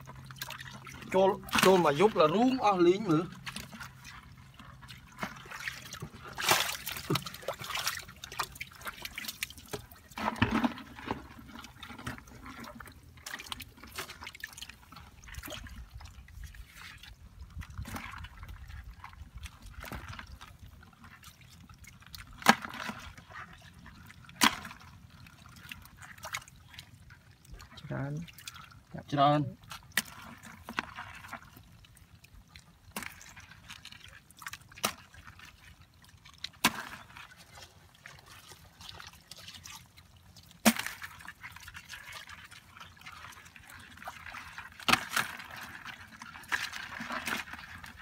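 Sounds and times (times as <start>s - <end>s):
hands splashing in muddy water: 0.0s - 28.7s, 29.6s - 48.0s
water drips and trickles: 0.0s - 48.0s.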